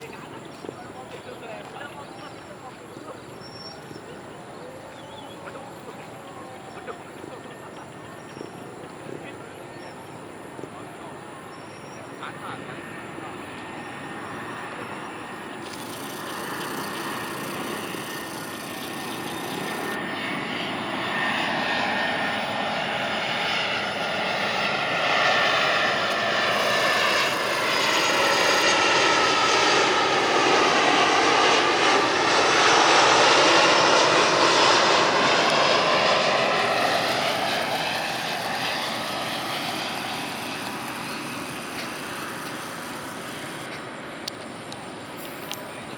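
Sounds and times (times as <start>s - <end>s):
airliner passing overhead: 0.0s - 45.9s.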